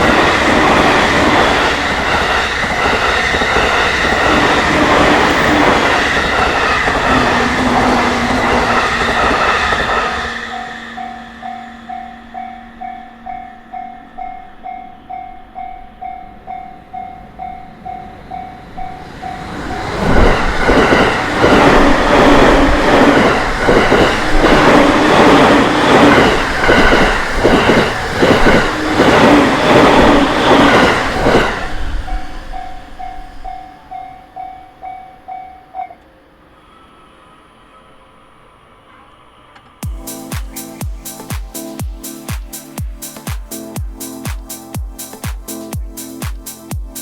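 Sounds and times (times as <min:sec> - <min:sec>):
level-crossing warning bell: 0:00.0 - 0:39.2, 0:39.8 - 0:47.0.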